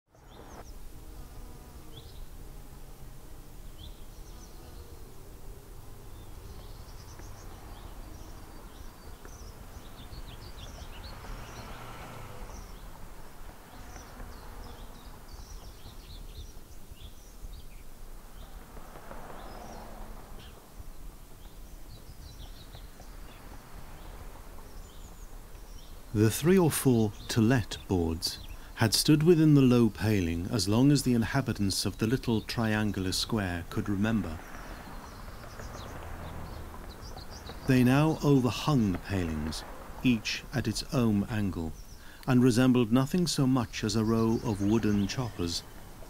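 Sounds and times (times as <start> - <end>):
small birds chirping: 0.1 - 2.4, 3.5 - 46.0.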